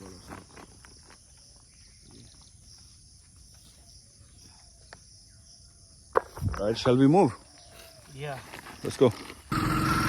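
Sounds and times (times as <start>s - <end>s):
insect chorus buzzing: 0.0s - 10.0s.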